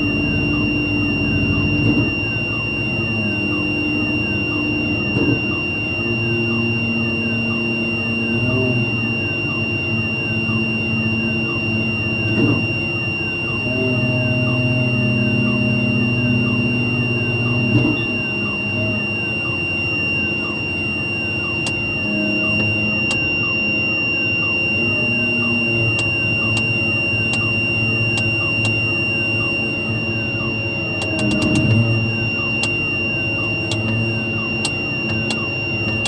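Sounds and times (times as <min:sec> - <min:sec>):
diesel engine running: 0:00.0 - 0:36.0
high-pitched whine: 0:00.0 - 0:36.0.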